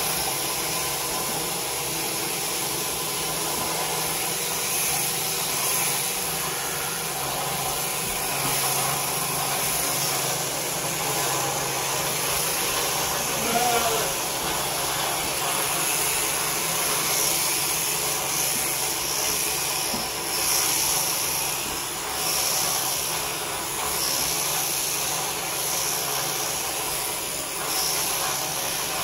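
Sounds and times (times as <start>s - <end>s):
electric sheep shears buzzing: 0.0s - 29.0s.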